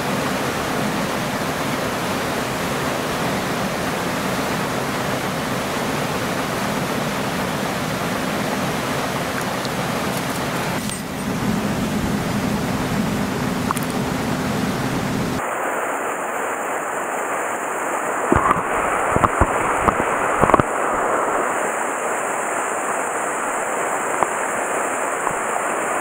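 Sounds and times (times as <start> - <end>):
stream water rushing: 0.0 - 16.6, 18.1 - 26.0.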